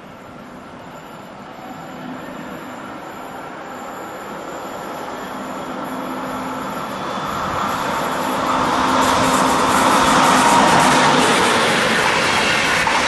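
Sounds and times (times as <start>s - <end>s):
train running on track: 0.0s - 13.0s.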